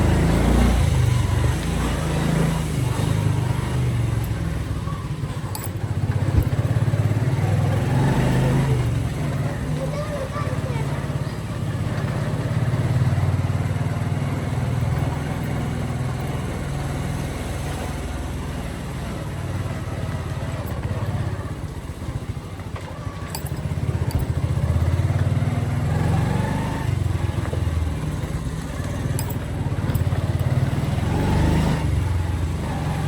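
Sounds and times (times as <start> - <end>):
motorcycle engine running: 0.0 - 33.0
road noise: 0.0 - 33.0.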